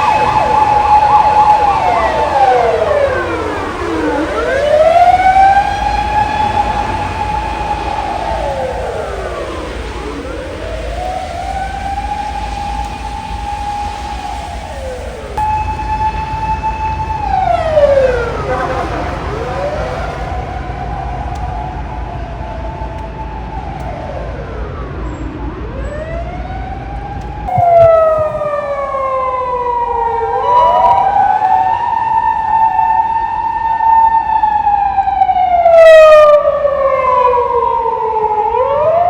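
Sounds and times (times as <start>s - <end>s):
emergency vehicle siren wailing: 0.0s - 39.0s.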